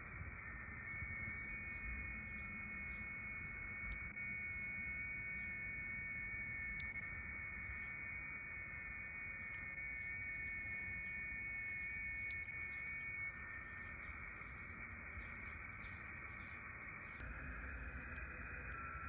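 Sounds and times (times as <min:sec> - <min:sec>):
faint radio signal tones: 0:00.0 - 0:19.0.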